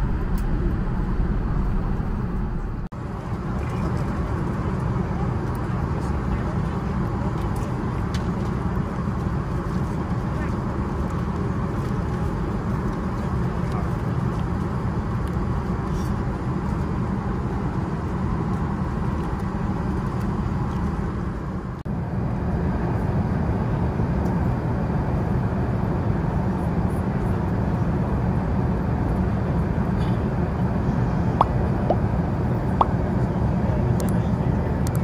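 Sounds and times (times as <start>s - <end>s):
jet airliner cabin roar: 0.0s - 35.0s.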